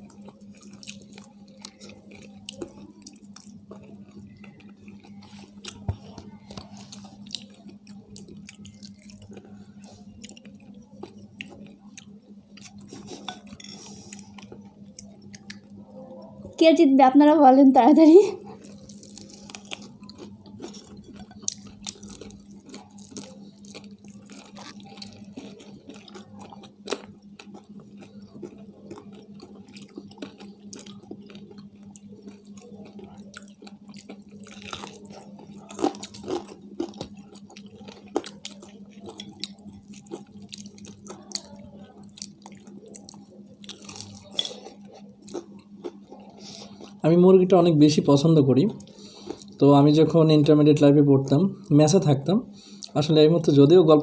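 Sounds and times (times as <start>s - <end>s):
crunchy chewing: 0.0s - 16.2s, 18.4s - 49.8s
steady low hum: 0.0s - 54.0s.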